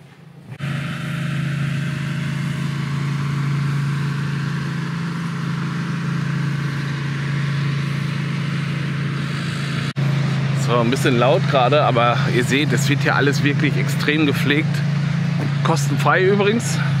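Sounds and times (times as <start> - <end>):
engine running steadily: 0.3 - 17.0.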